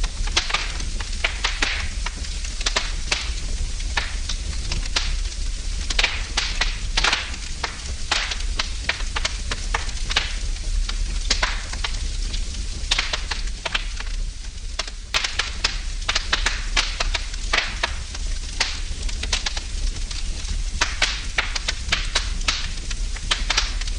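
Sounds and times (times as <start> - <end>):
low fire rumble: 0.0 - 23.9
sharp pops and snaps: 0.0 - 23.9
wood fire crackling: 0.0 - 23.9.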